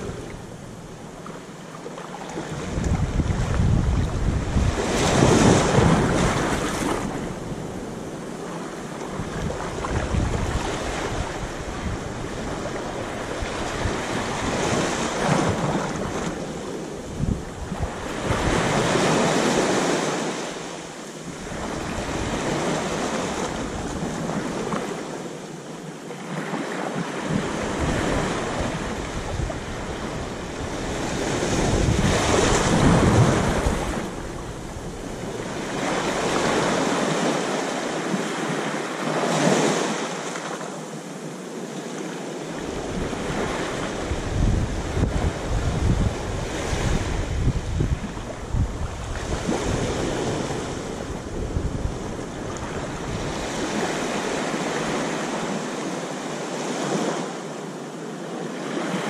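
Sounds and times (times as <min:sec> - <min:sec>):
wind rumble on microphone: 0:00.0 - 0:25.2, 0:26.2 - 0:40.0, 0:42.4 - 0:57.3
waves washing onto sand: 0:00.0 - 0:59.0.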